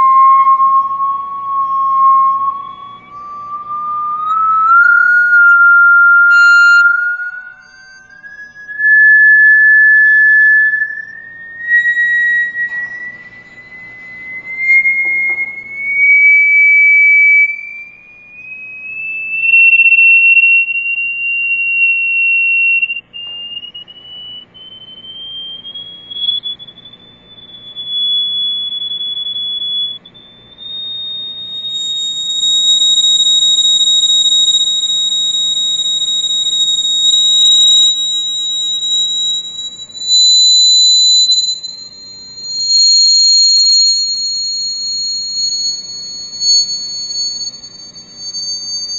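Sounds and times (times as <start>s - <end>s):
high-pitched electronic tone: 0.0s - 48.9s.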